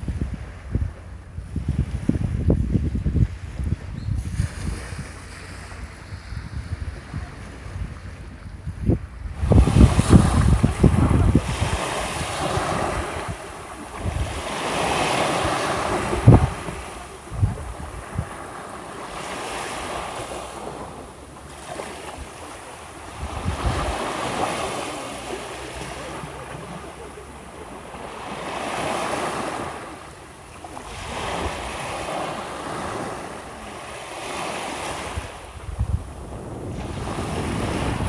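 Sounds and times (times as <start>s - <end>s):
sea waves washing on shore: 3.2s - 38.0s.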